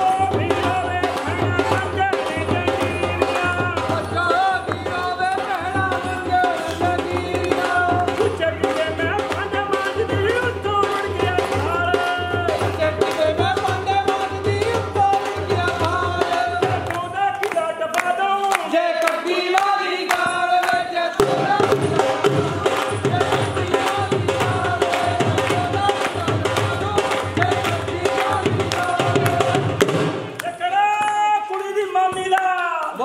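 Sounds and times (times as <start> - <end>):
music with melody: 0.0 - 17.5, 20.0 - 30.4
drum beat: 0.0 - 32.4.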